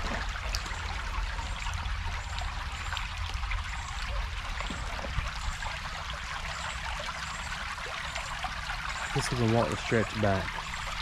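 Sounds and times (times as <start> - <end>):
water running over rocks: 0.0 - 11.0.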